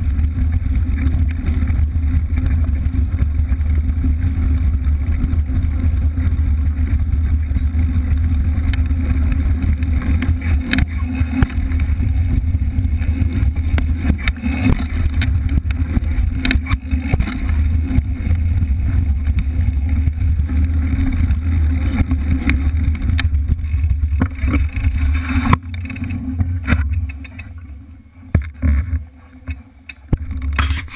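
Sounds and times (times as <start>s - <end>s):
bike tire rolling on dirt: 0.0s - 30.9s
clicks and rattles: 0.0s - 30.9s.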